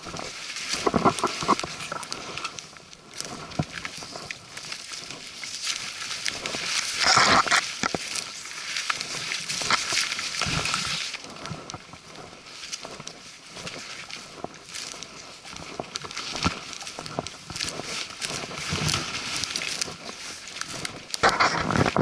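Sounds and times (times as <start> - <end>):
branches brushing clothing: 0.0 - 22.0
footsteps in dry brush: 0.0 - 22.0
twigs snapping: 0.0 - 22.0.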